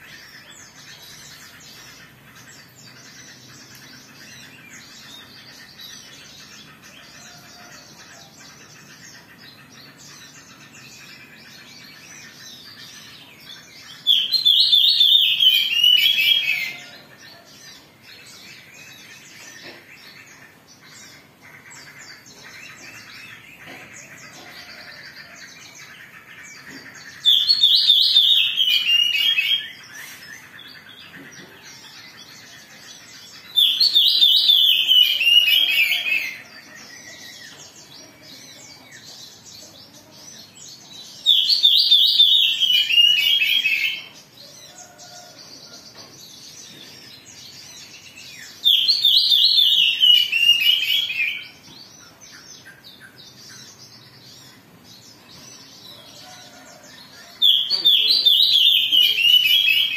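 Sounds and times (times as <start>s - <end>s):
magpie-robin agitated song: 0.0s - 40.2s, 41.0s - 45.0s, 46.8s - 56.2s, 57.1s - 59.9s.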